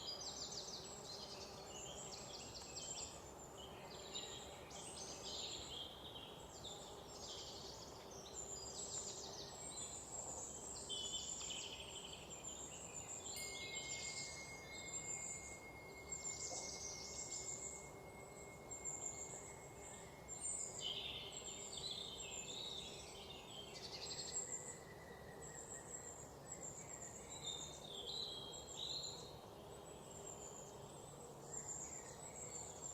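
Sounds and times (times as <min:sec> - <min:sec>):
high insect-like whine: 0:00.0 - 0:27.8
low woodland hum: 0:00.0 - 0:32.9
songbirds chirping and trilling: 0:00.0 - 0:32.9.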